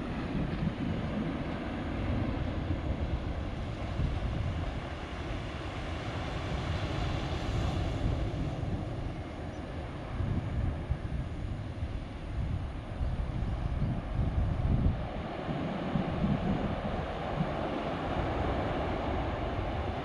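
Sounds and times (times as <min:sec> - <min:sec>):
waves breaking in a low rush: 0:00.0 - 0:20.0.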